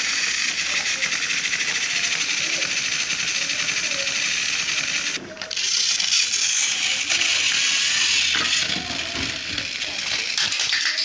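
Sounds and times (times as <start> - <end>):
toy train motor whirring: 0.0 - 11.0.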